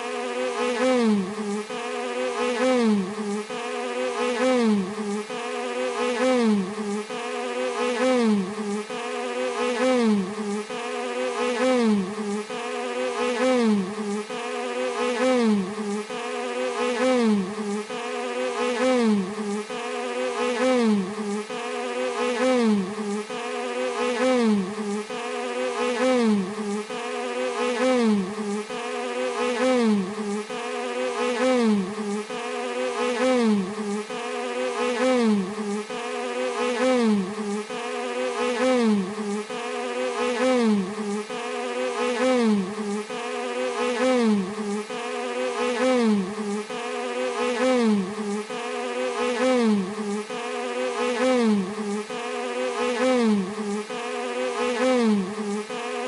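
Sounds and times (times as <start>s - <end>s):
bee buzzing: 0.0s - 56.0s.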